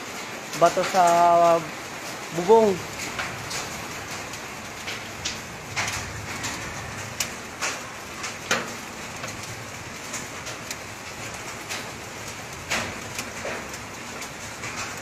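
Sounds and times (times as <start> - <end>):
hiss of falling rain: 0.0 - 15.0.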